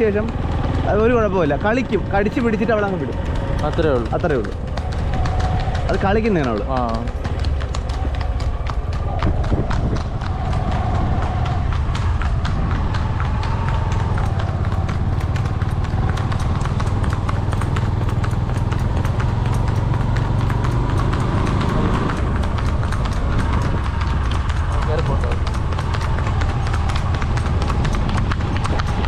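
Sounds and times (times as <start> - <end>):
horse hooves clip-clopping: 0.0 - 29.0.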